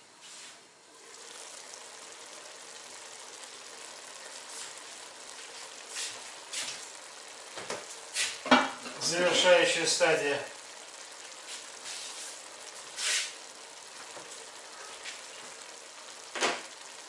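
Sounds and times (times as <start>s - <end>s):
stew bubbling: 0.9s - 17.0s.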